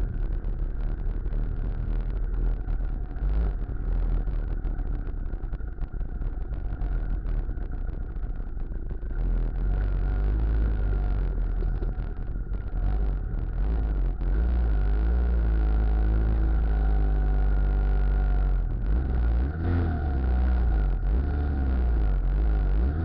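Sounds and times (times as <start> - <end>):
scooter engine running: 0.0 - 18.8.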